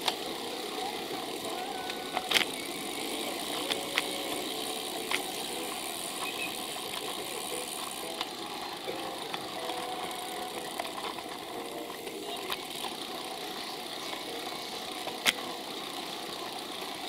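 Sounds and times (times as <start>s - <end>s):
bicycle clicks and rattles: 0.0s - 17.0s
road and wind noise: 0.0s - 17.0s.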